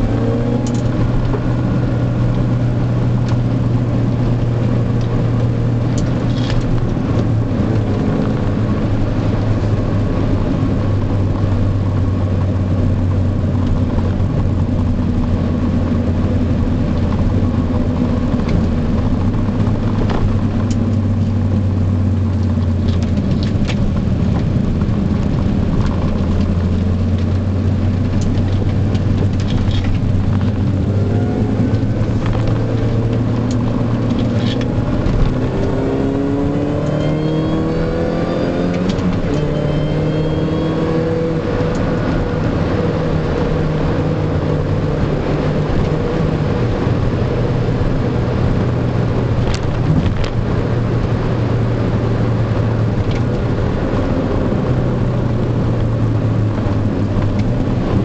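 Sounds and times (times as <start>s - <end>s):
car engine cruising: 0.0s - 58.0s
road noise: 0.0s - 58.0s.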